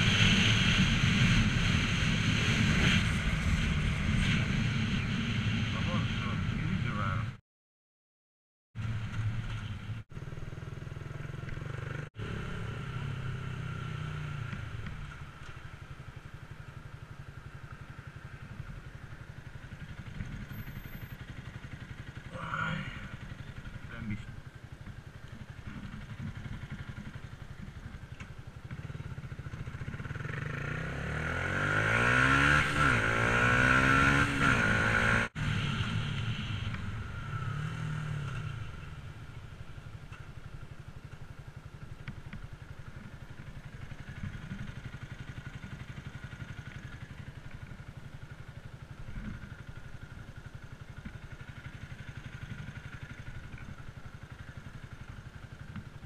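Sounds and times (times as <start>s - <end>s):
motorcycle engine revving: 0.0s - 7.3s, 8.8s - 56.0s.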